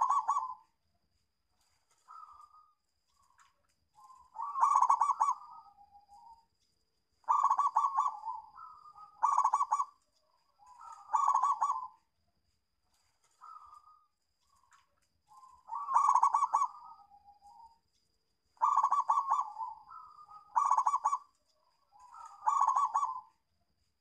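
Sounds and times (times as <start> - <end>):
dove trilling: 0.0 - 0.7, 1.9 - 6.4, 7.2 - 12.1, 13.3 - 17.8, 18.5 - 23.4
soft dove coos: 0.0 - 0.8, 1.6 - 6.5, 7.2 - 12.1, 12.9 - 17.8, 18.6 - 23.5.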